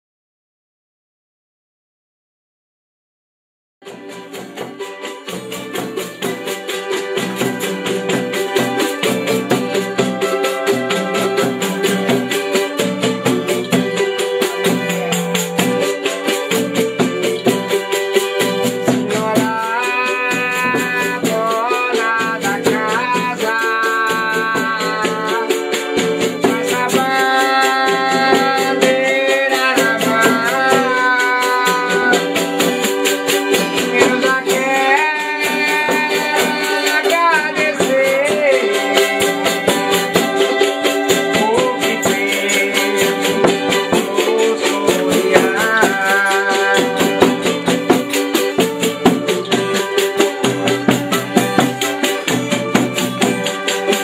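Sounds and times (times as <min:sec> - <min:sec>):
shaker and tambourine rattle: 0:03.8 - 0:54.0
strummed strings: 0:03.8 - 0:54.0
voices singing: 0:03.9 - 0:54.0.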